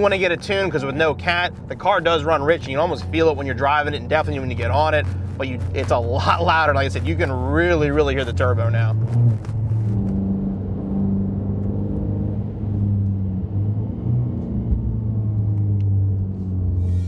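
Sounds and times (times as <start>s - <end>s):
car exhaust drone: 0.0s - 17.0s.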